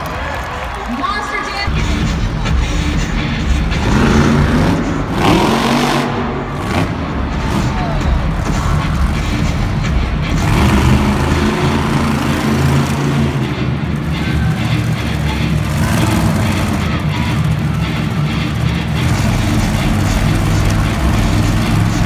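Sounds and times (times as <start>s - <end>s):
loud truck engine revving: 1.7s - 22.0s.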